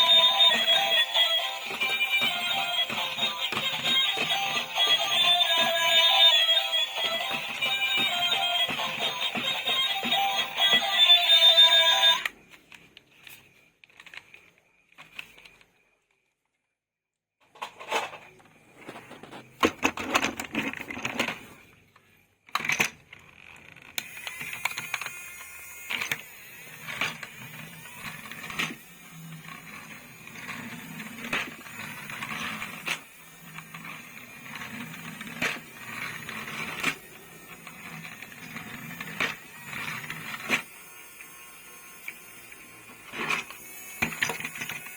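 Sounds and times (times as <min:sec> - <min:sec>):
plastic toys and packaging handled: 0:00.0 - 0:16.7, 0:17.4 - 0:40.9, 0:41.8 - 0:44.9.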